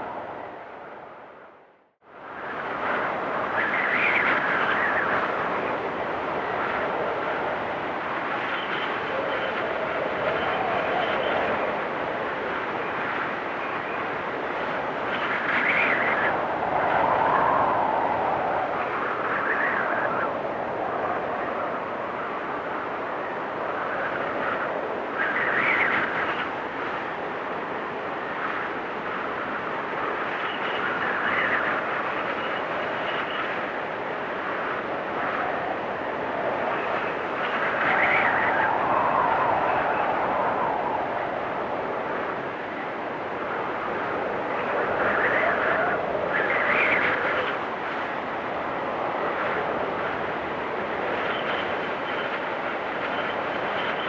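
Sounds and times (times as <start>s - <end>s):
blizzard wind blowing: 0.0s - 54.0s.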